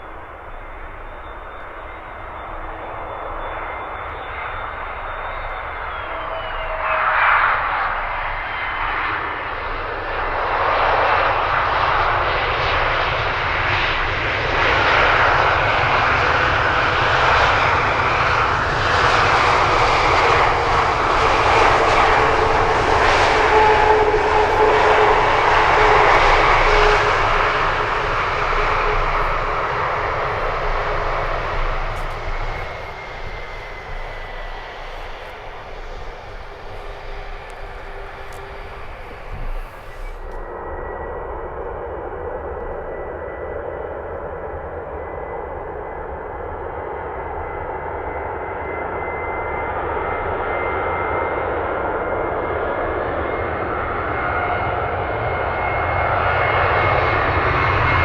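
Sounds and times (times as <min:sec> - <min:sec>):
jet airliner engines passing: 0:00.0 - 0:58.0.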